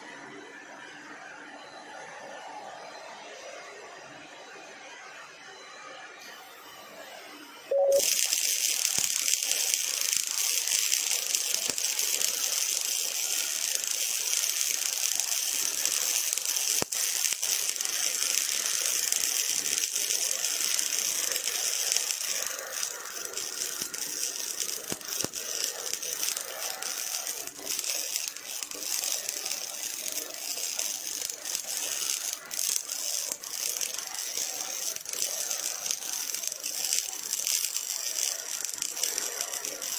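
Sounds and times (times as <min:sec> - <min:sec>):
welding arc crackling and hissing: 0:06.3 - 0:39.9.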